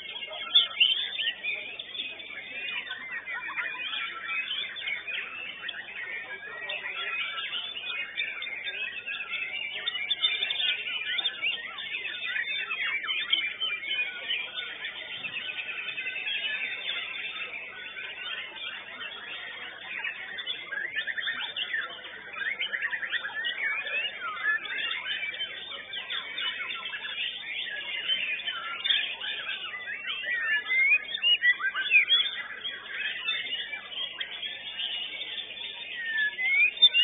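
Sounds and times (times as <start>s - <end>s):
bird singing whistles and trills: 0.0s - 37.0s.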